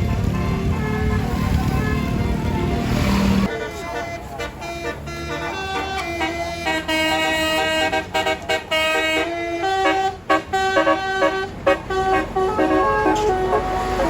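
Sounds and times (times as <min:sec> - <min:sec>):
musical air horn tune: 0:00.0 - 0:14.0.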